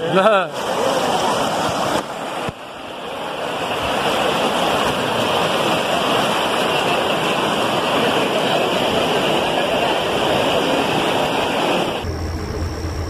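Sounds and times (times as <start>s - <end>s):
rushing floodwater: 0.0s - 13.0s.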